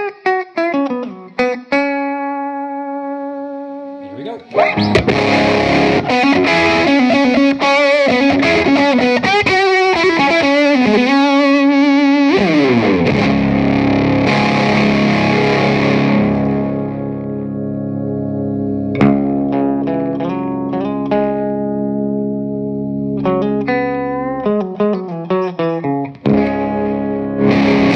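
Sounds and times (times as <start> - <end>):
distorted electric guitar: 0.0 - 27.9.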